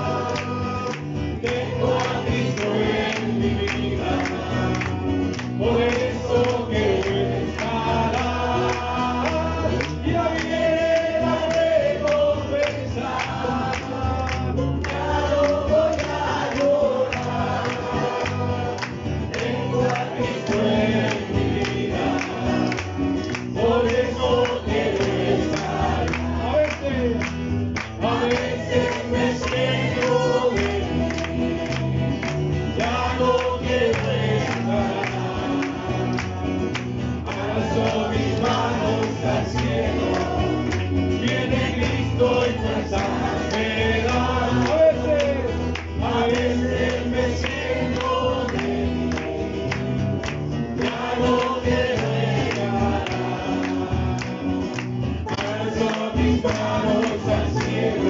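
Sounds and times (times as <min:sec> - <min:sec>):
male voices leading singing: 0:00.0 - 0:49.4, 0:50.8 - 0:58.0
acoustic guitar strumming: 0:00.0 - 0:58.0
congregation singing: 0:00.0 - 0:58.0.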